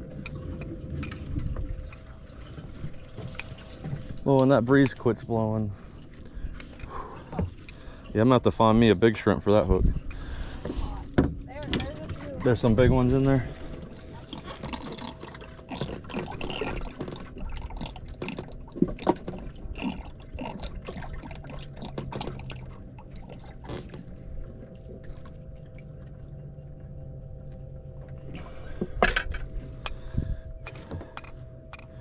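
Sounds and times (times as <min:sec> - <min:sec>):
water splashing and dripping: 0:00.0 - 0:08.8, 0:10.0 - 0:32.0
steady low hum: 0:00.0 - 0:32.0.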